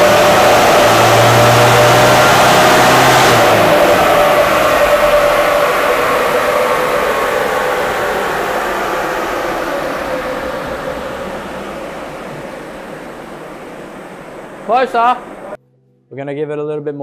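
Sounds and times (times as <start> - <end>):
wheels and rollers whining down: 0.0 - 15.6.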